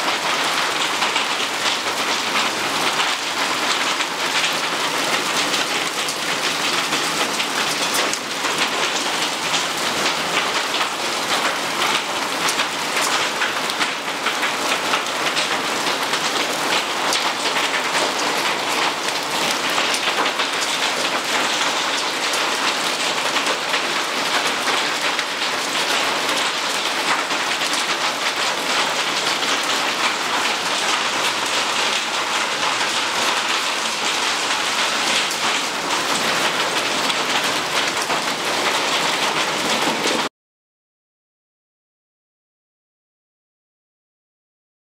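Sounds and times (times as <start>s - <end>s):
hail and rain on tiles: 0.0s - 40.3s.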